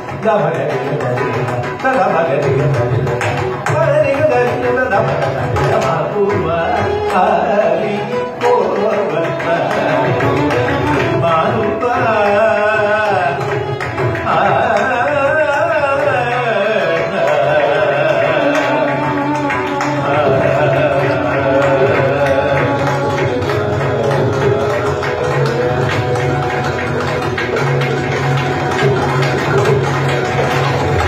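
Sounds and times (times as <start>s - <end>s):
drum accompaniment: 0.0s - 31.0s.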